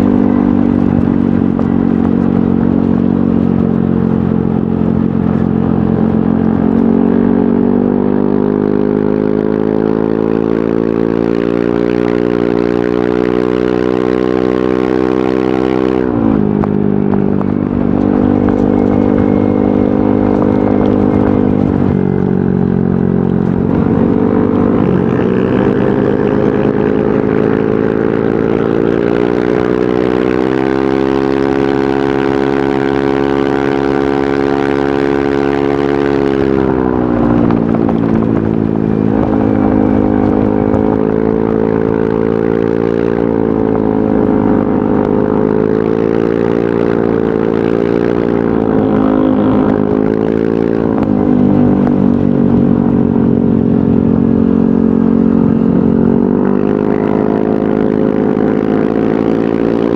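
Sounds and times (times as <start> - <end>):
scooter engine revving: 0.0 - 59.9.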